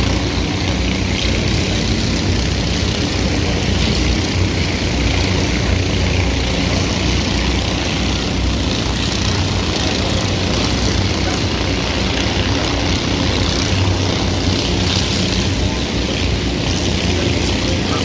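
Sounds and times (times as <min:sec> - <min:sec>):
kart engines droning: 0:00.0 - 0:18.0.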